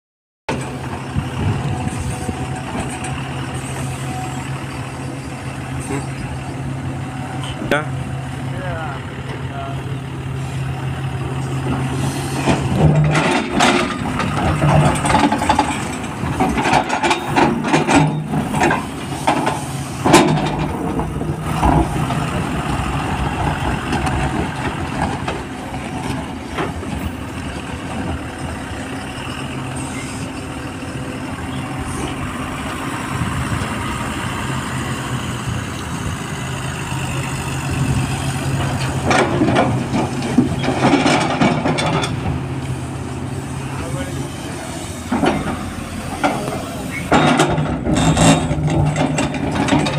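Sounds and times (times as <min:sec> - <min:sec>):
excavator diesel engine running: 0:00.5 - 0:49.9.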